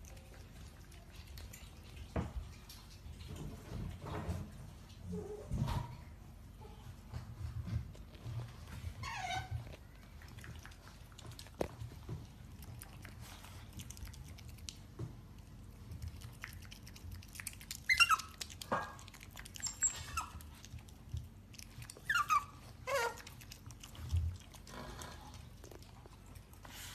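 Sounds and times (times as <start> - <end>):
otters chewing and crunching: 0.0 - 5.0, 7.1 - 26.9.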